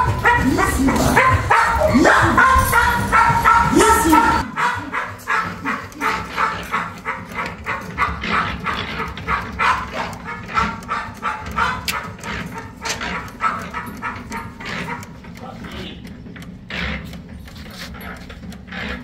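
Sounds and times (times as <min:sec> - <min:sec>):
puppy yapping: 0:00.0 - 0:15.2.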